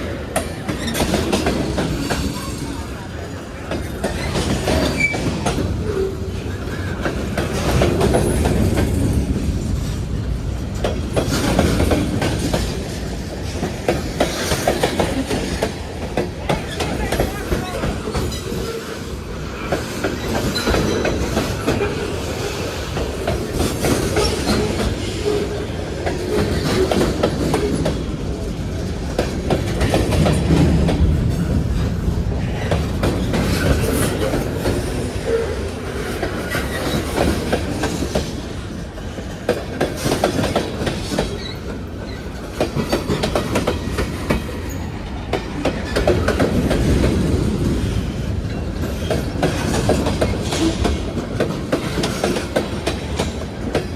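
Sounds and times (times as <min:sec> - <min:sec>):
train wheels clattering over rail joints: 0:00.0 - 0:53.9.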